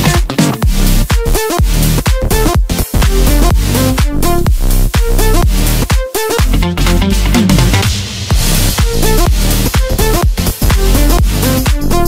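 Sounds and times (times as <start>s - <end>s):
electronic dance music: 0.0s - 12.0s
kick drum beat: 0.0s - 12.0s
synth notes: 0.0s - 12.0s.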